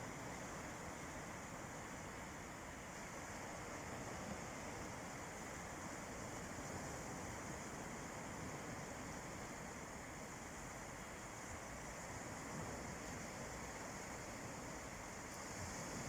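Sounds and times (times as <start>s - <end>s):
sea waves washing on a beach: 0.0s - 16.0s.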